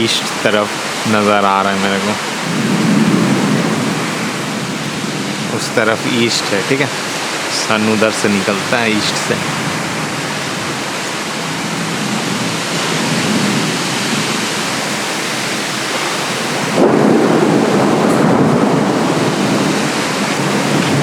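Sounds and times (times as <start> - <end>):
heavy rain pouring: 0.0 - 21.0
thunder rumbling: 0.0 - 21.0.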